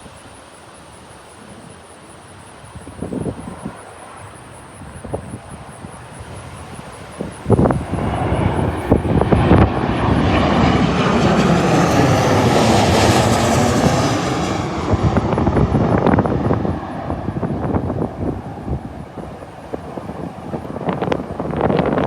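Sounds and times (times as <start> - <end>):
jet flying low overhead: 0.0 - 22.0
wind buffeting microphone: 2.7 - 22.0.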